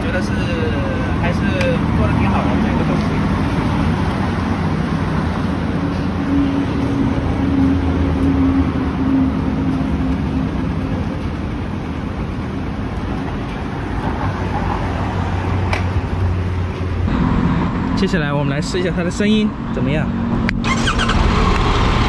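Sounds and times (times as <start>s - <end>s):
traffic noise with engine hum: 0.0s - 22.0s.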